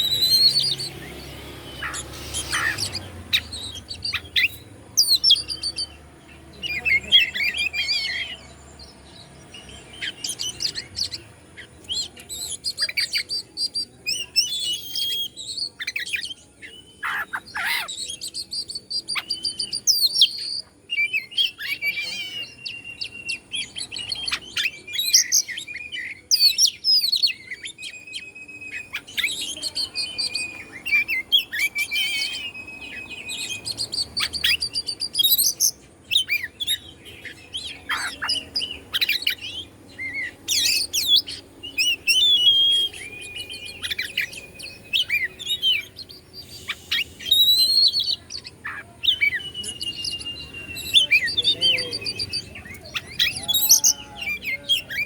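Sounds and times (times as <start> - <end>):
songbird singing whistles and trills: 0.0 - 55.0.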